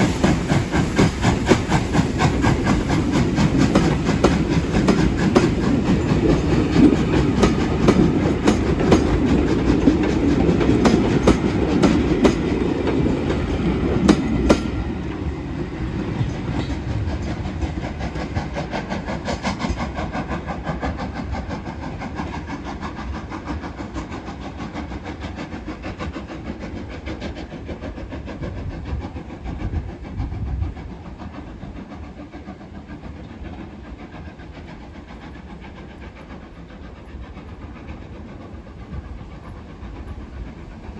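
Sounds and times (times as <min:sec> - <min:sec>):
train wheels clicking over rail joints: 0:00.0 - 0:40.9.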